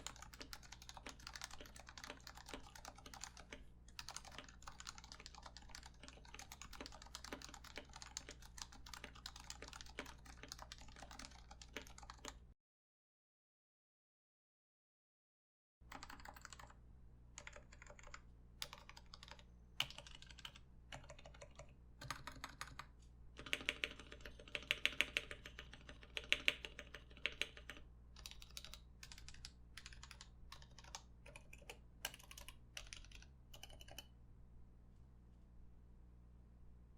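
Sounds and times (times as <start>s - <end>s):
typing on keyboard: 0.0s - 12.4s, 15.9s - 16.8s, 17.4s - 34.1s.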